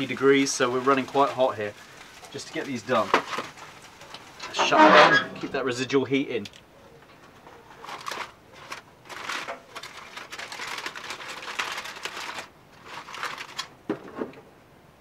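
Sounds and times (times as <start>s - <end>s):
aluminium foil crinkling: 0.0s - 13.8s.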